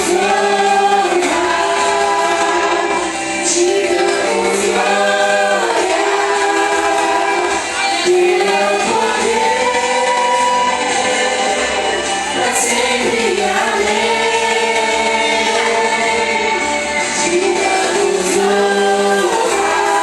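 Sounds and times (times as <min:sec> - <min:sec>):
vocal group singing gospel: 0:00.0 - 0:20.0.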